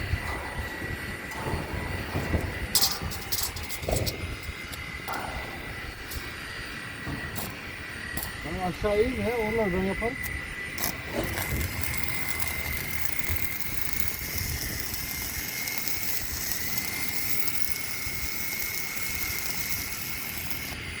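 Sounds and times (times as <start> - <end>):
welding arc crackling sizzle: 0.0 - 21.0.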